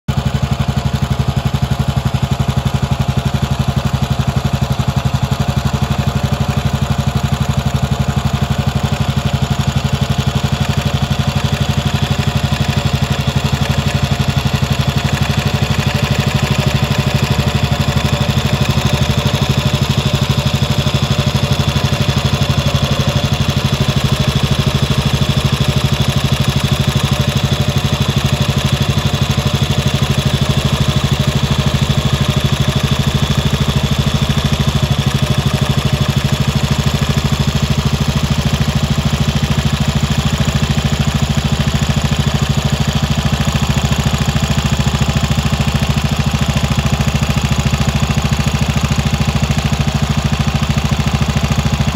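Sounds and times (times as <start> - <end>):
motorcycle engine idling: 0.1 - 51.9.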